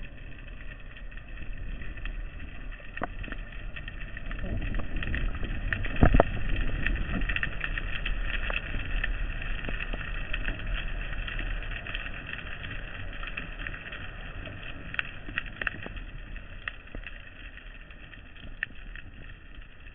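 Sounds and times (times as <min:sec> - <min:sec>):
sharp clicks and crackles: 0:00.0 - 0:19.9
underwater rumble: 0:00.0 - 0:19.9.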